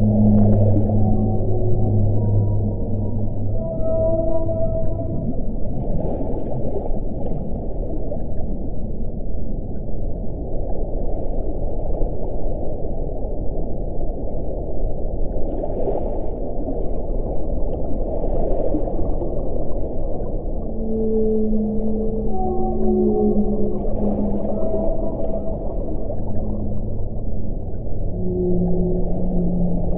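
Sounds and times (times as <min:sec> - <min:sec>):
underwater rushing water: 0:00.0 - 0:29.9.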